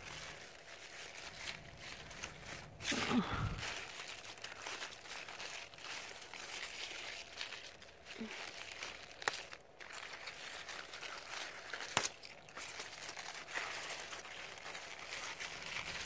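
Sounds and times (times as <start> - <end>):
leaves rustling and crinkling: 0.0 - 16.0
stalks crunching: 0.0 - 16.0.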